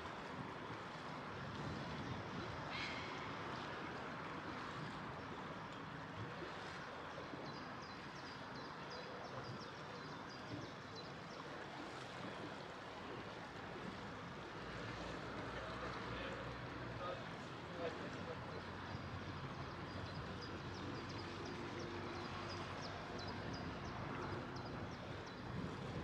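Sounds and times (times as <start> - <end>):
rush of water and wind: 0.0 - 26.0.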